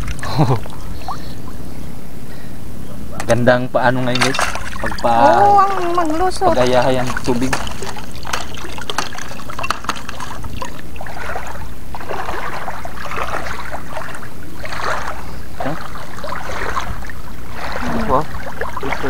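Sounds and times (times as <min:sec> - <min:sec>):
legs wading through water: 0:00.0 - 0:02.5, 0:04.1 - 0:19.0.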